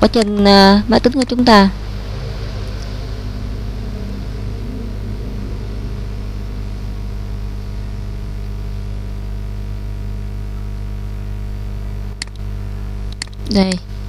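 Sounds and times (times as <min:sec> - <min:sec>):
electrical hum: 0:00.0 - 0:14.0
microphone hiss: 0:00.0 - 0:14.0.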